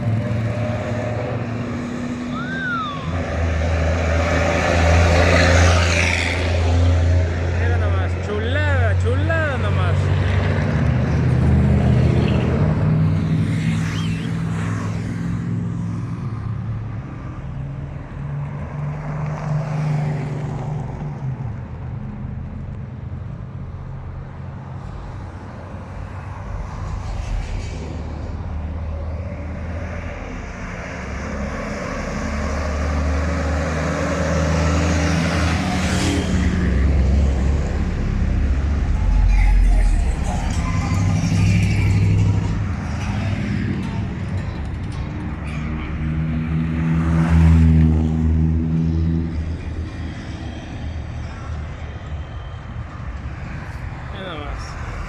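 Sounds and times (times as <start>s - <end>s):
trucks driving past: 0.0s - 55.0s.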